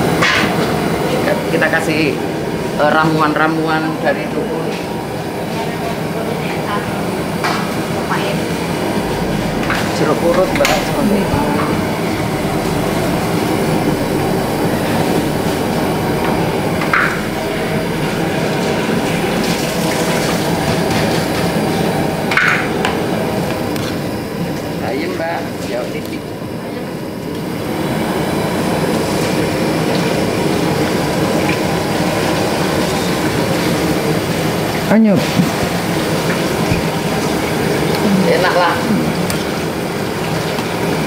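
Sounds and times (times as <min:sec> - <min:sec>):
water boiling in a wok: 0:00.0 - 0:41.0
gas burners rushing: 0:04.6 - 0:41.0.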